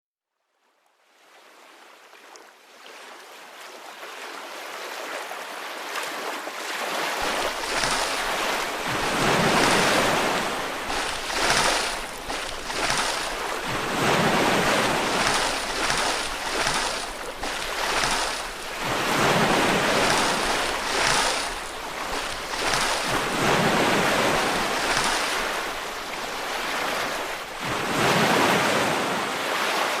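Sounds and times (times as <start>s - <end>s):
waves washing and breaking: 2.8s - 30.0s.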